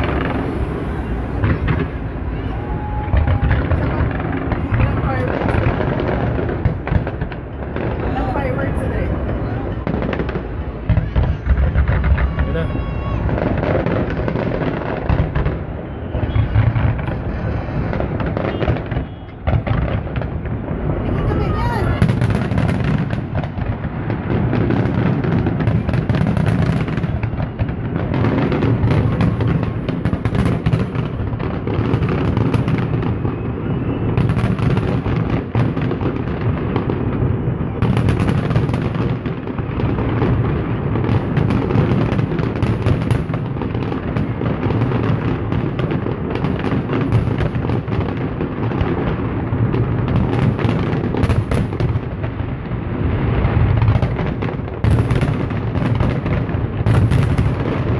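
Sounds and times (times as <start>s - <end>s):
fireworks booming and crackling: 0.0s - 57.9s.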